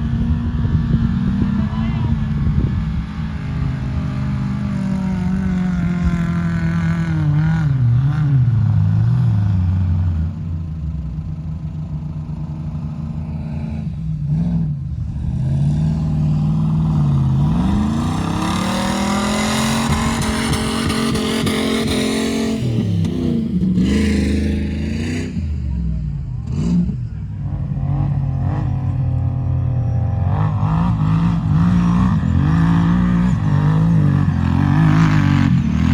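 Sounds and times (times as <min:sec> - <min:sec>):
off-road vehicle engine under load: 0:00.0 - 0:35.9.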